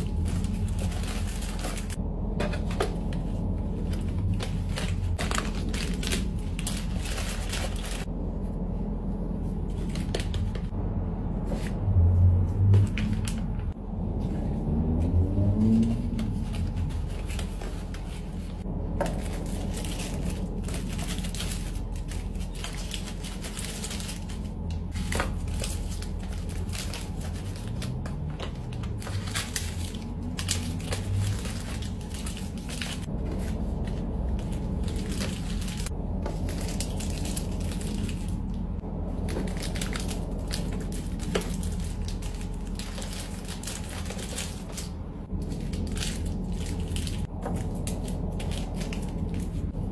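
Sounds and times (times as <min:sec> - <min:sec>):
plastic wrappers crinkling: 0:00.0 - 0:08.1, 0:15.7 - 0:49.9.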